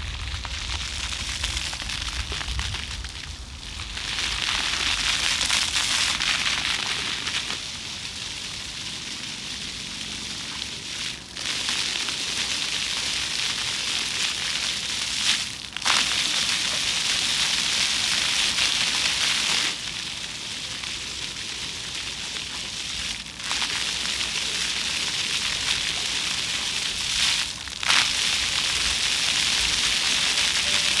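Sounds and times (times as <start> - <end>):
fountain jets splashing on paving: 0.0 - 31.0.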